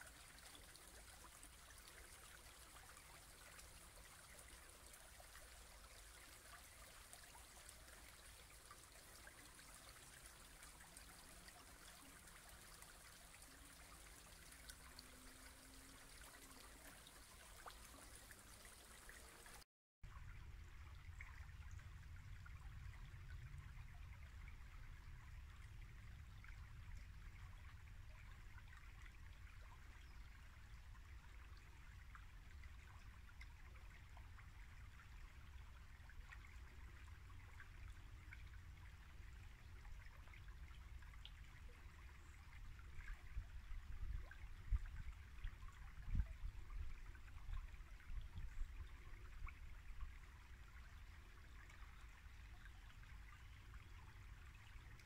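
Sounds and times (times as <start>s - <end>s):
brook babbling: 0.0s - 55.0s.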